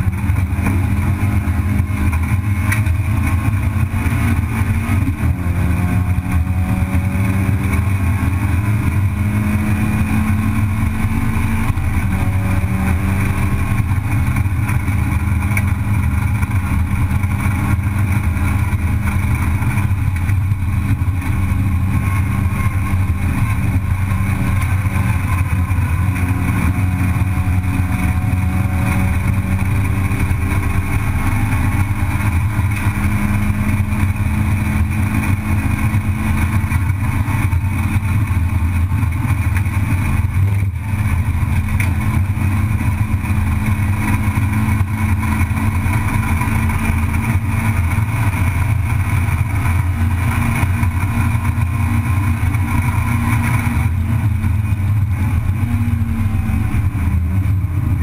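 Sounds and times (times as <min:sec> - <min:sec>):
race car engine running: 0:00.0 - 0:58.0
road and wind noise: 0:00.0 - 0:58.0.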